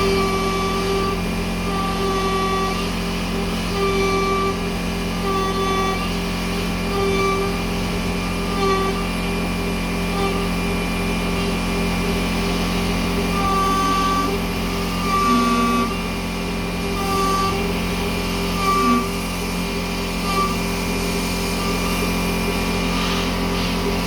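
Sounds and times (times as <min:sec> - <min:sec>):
cnc spindle whining: 0:00.0 - 0:24.0
end mill cutting aluminium: 0:00.0 - 0:24.0.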